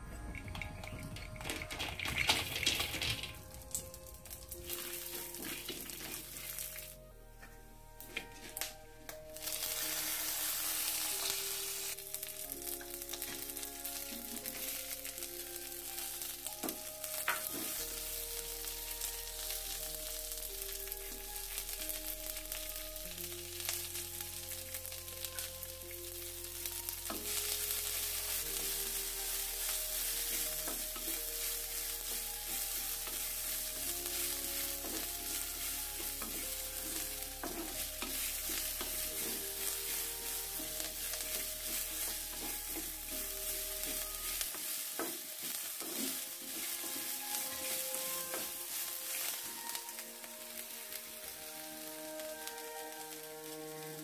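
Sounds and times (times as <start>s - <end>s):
onion sizzling in hot oil: 0.0s - 7.1s, 8.0s - 54.0s
wooden spatula scraping a pot: 0.0s - 24.3s, 25.2s - 50.0s.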